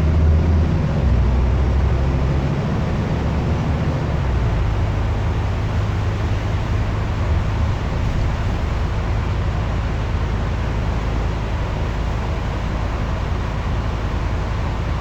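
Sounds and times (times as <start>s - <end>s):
bus diesel engine rumbling: 0.0s - 15.0s
road noise: 0.0s - 15.0s.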